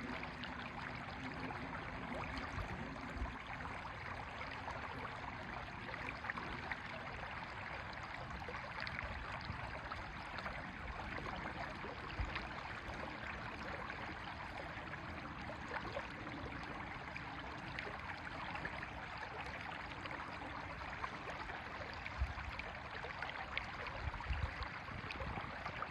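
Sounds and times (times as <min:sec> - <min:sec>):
river water flowing: 0:00.0 - 0:25.9.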